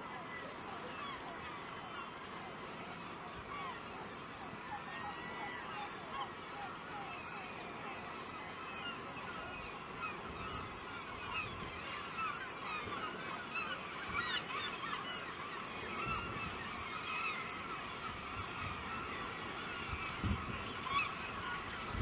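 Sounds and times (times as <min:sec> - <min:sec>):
flock of birds calling: 0:00.2 - 0:22.0.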